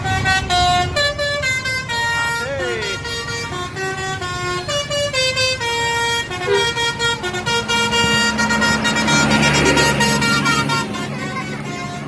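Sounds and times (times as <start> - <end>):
bus horn playing melody: 0.0 - 12.0
low engine hum: 0.0 - 12.0.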